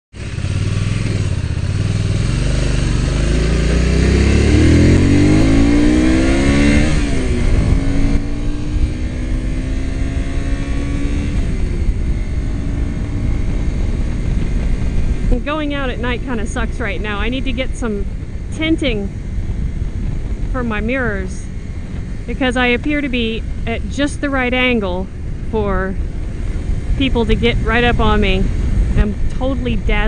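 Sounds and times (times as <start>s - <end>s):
motorcycle engine accelerating: 0.1s - 30.0s
wind rushing over microphone: 0.2s - 30.0s.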